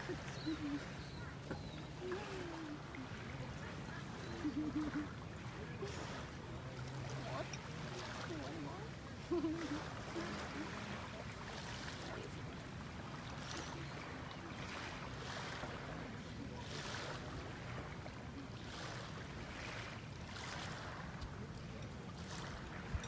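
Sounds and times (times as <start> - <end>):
small waves lapping: 0.0 - 23.0.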